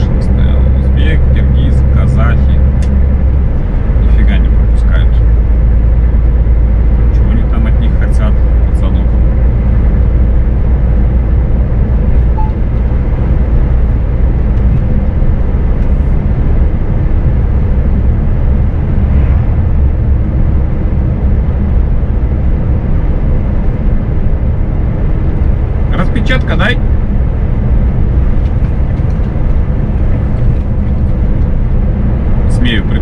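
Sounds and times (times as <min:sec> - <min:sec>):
truck engine drone: 0:00.0 - 0:33.0
tyre and road noise: 0:00.0 - 0:33.0.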